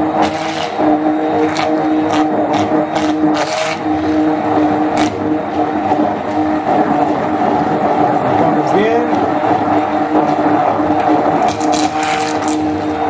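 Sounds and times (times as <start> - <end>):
stick blender motor whining: 0.0 - 8.1, 9.2 - 13.0.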